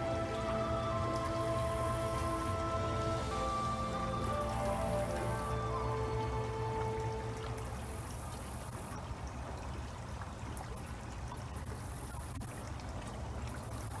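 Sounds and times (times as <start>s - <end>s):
pond water trickling and splashing: 0.0s - 14.0s.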